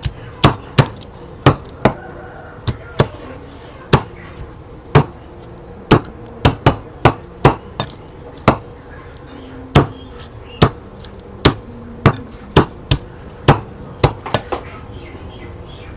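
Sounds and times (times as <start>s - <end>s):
cleaver chopping raw chicken: 0.0s - 5.2s, 5.9s - 14.7s.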